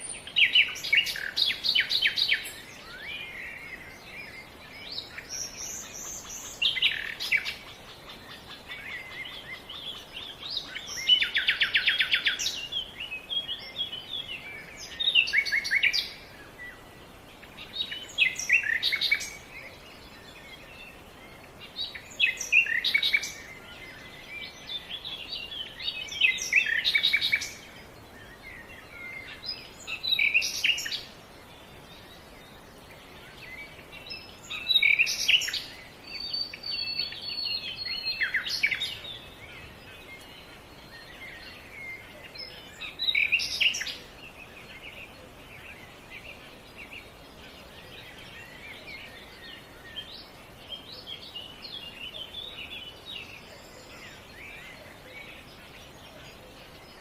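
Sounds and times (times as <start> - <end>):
birds trilling and chirping: 0.0 - 57.0
faint steady hiss: 0.0 - 57.0.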